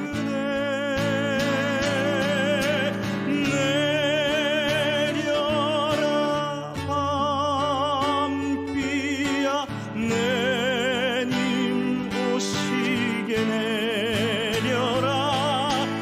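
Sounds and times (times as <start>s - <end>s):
man singing with vibrato: 0.0s - 16.0s.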